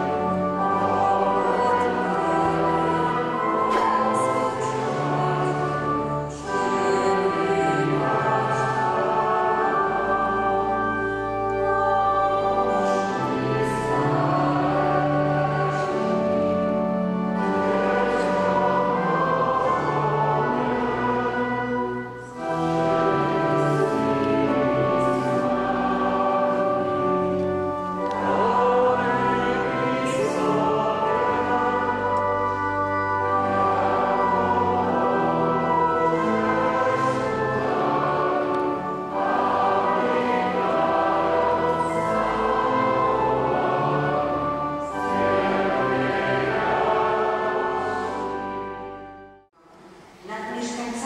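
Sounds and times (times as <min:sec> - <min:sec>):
church choir singing a carol: 0:00.0 - 0:49.6
pipe organ: 0:00.0 - 0:50.1.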